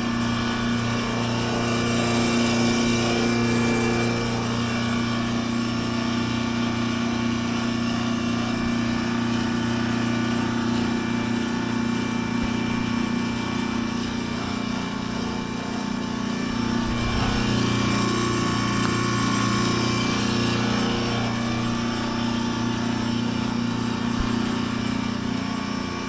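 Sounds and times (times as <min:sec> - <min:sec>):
heat pump compressor humming: 0:00.0 - 0:26.0.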